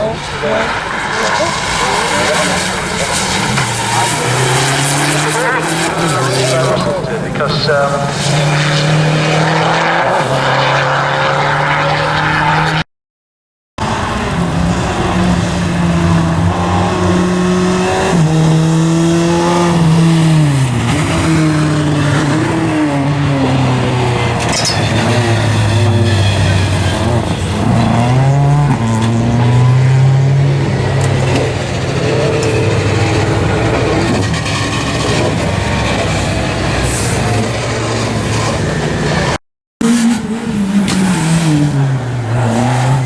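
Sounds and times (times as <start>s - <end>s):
rally car engine at full throttle: 0.0s - 12.8s, 13.8s - 43.0s.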